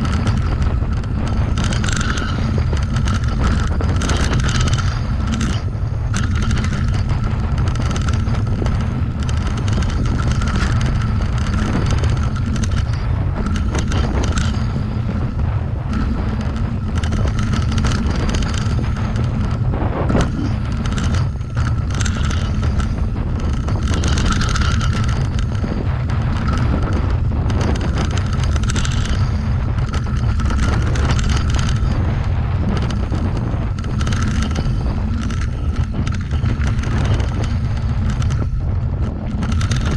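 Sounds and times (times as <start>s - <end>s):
bike tyres rolling on dirt trail: 0.0s - 39.9s
wind buffeting microphone: 0.0s - 39.9s.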